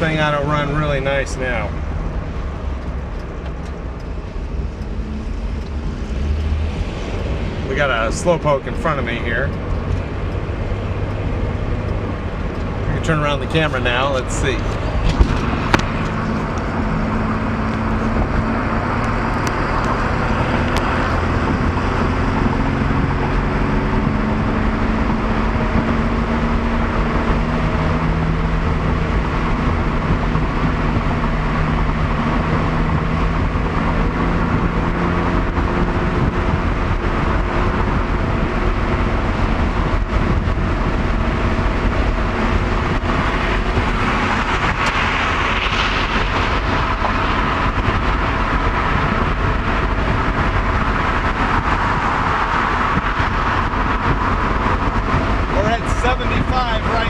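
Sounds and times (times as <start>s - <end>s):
car engine running: 0.0s - 57.0s
road noise inside cabin: 0.0s - 57.0s
rush of noise: 0.0s - 57.0s.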